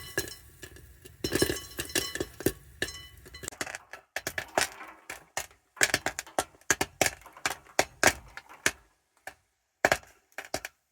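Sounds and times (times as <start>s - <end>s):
sharp clicks and knocks: 0.0s - 10.8s.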